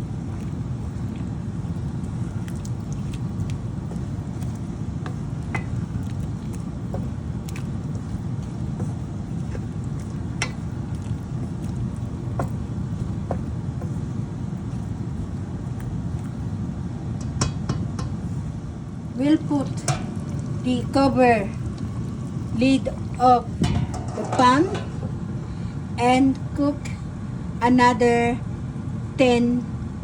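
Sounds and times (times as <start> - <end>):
low rumble of stovetop cooking: 0.0 - 30.0.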